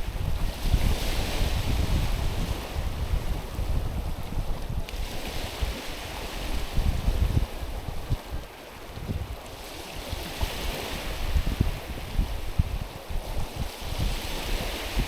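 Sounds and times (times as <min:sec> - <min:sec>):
small waves on stony shore: 0:00.0 - 0:15.0
wind buffeting microphone: 0:00.0 - 0:15.0.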